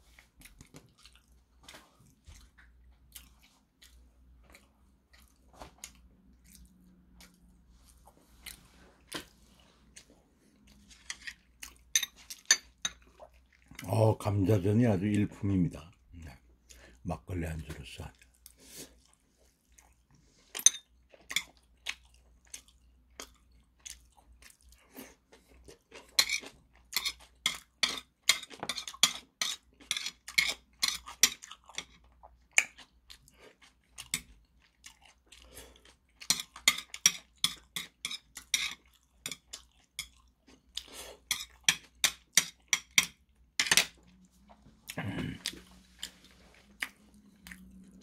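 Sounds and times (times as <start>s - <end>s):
person chewing food: 0.0s - 14.0s, 18.1s - 48.0s.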